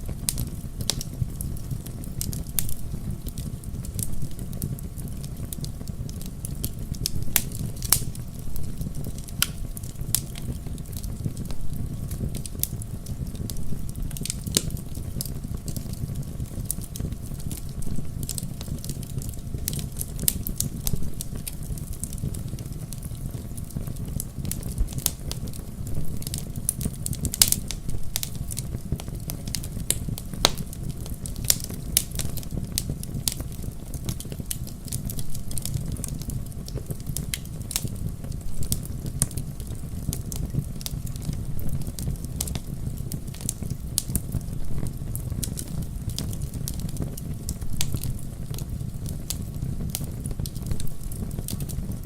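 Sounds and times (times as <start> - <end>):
fire flames rumbling: 0.0 - 52.0
wood crackling and snapping: 0.1 - 25.6, 26.2 - 52.0.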